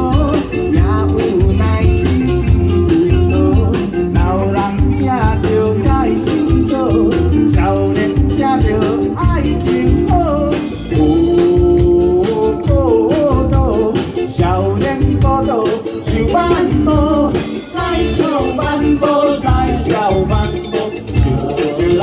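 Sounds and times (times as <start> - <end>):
live band playing upbeat song: 0.0 - 22.0
person singing: 0.0 - 22.0.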